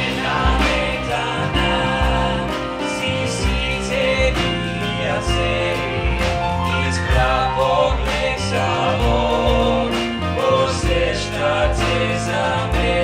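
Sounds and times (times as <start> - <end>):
jazz band playing: 0.0 - 13.0
voices singing in close harmony: 0.0 - 13.0.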